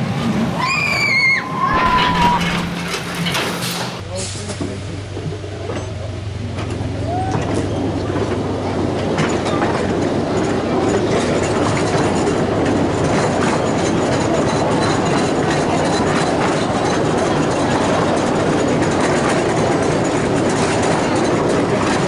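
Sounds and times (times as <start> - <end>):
wheels rattling on rails: 0.0 - 22.0.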